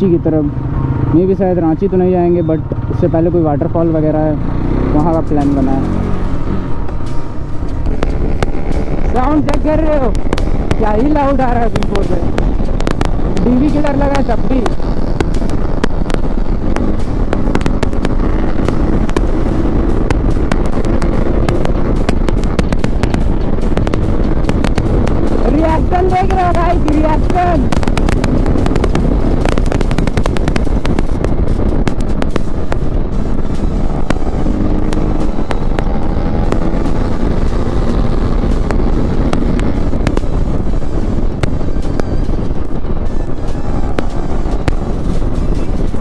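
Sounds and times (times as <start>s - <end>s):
wind noise on microphone: 0.0s - 46.0s
motorcycle engine at speed: 2.6s - 46.0s
exhaust pops crackling: 3.6s - 46.0s.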